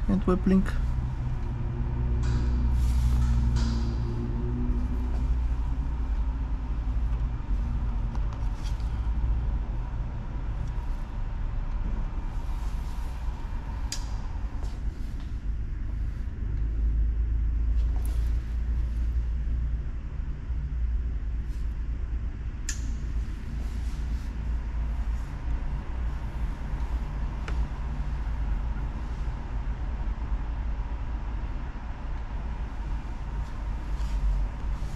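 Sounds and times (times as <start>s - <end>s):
car engine rumble from inside cabin: 0.0s - 34.9s.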